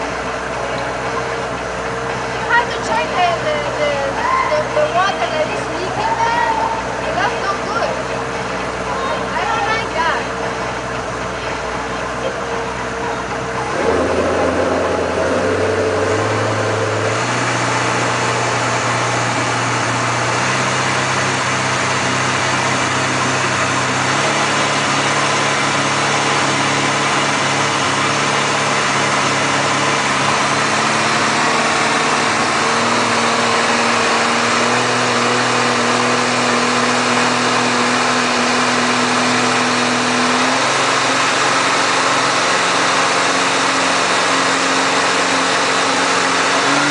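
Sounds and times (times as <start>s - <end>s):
motorboat engine running: 0.0s - 46.9s.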